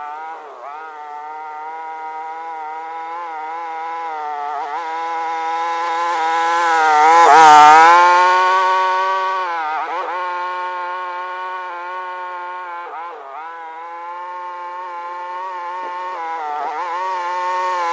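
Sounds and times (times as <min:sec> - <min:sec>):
small buggy engine running: 0:00.0 - 0:17.9.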